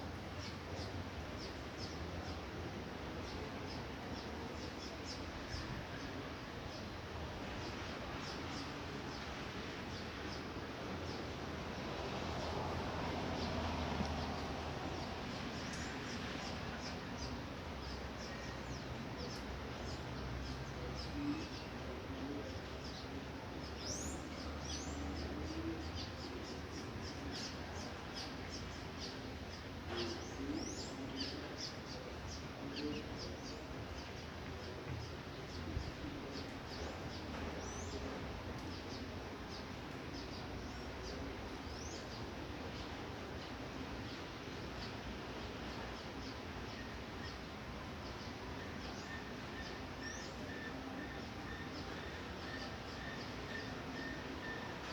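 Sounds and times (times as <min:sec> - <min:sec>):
steady light rain: 0:00.0 - 0:54.9.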